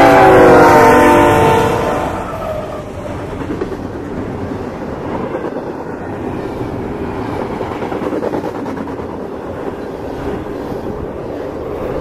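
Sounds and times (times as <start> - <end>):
freight train rumbling and rattling: 0.0 - 12.0.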